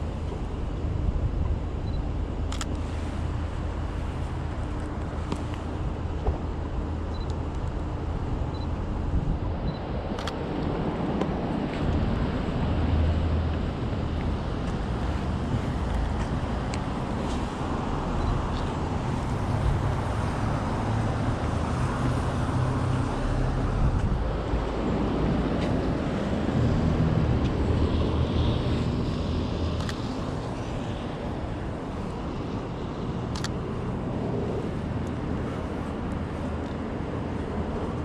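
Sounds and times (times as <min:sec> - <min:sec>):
vehicle engines passing: 0:00.0 - 0:38.0.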